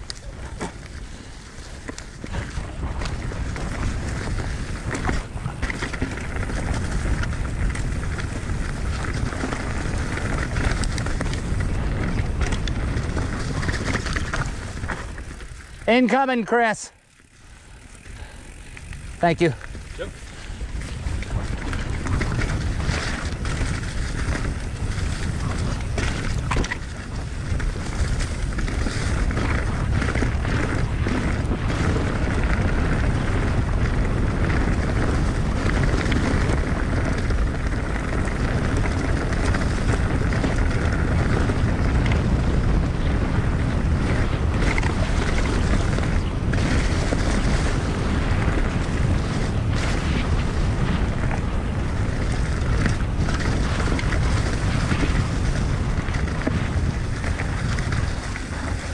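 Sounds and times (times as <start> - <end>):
bike clicks and rattles: 0.0 - 58.9
bike tyres rolling on dirt trail: 0.0 - 58.9
wind buffeting microphone: 0.0 - 58.9.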